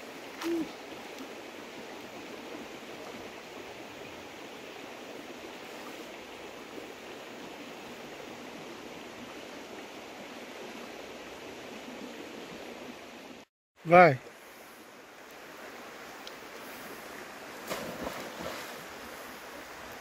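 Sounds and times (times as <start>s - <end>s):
river running over stones: 0.0s - 20.0s.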